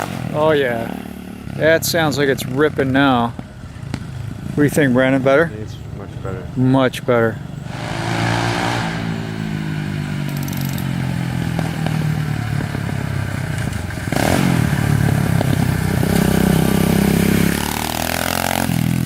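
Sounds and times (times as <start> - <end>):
pit bike engine running: 0.0 - 19.0.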